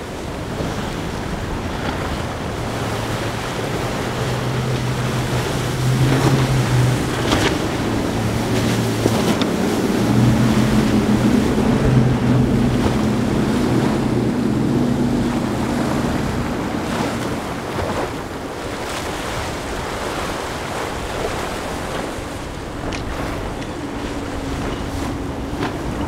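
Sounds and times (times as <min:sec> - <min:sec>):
outboard engines droning: 0:00.0 - 0:26.0
spray and breaking waves: 0:00.0 - 0:26.0
wind buffeting microphone: 0:00.0 - 0:26.0.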